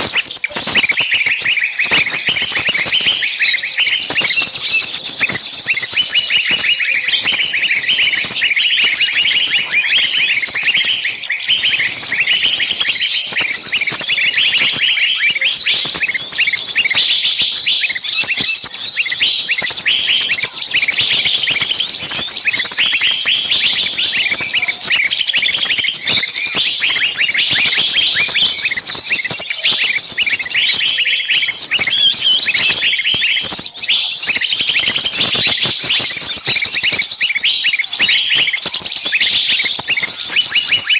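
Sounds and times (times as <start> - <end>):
small birds shrill alarm calls: 0.0 - 40.9.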